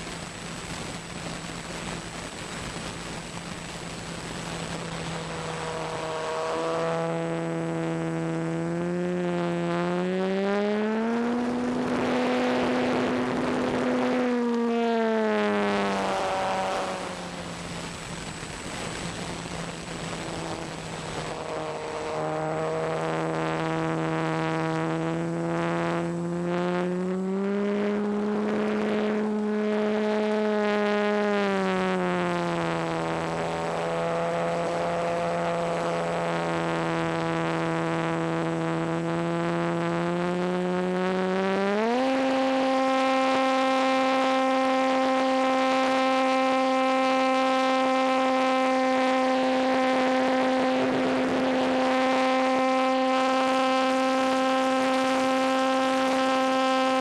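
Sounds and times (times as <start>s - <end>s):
electric motor and propeller buzzing: 0.0s - 57.0s.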